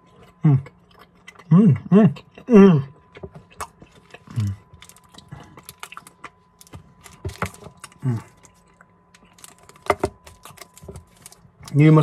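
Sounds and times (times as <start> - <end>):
chewing and lip smacking: 0.0 - 11.8.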